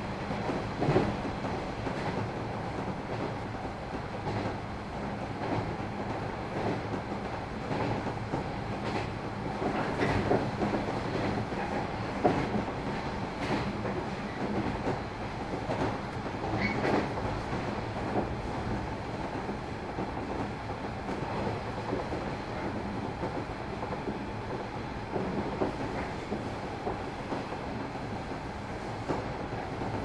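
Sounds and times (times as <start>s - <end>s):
train wheels rumbling on rail: 0.0s - 30.0s
rail joint clicks: 0.1s - 30.0s.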